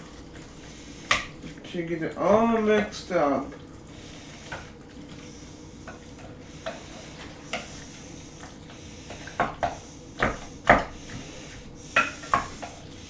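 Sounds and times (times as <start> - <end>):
wooden spoon stirring in a bowl: 0.0 - 13.0.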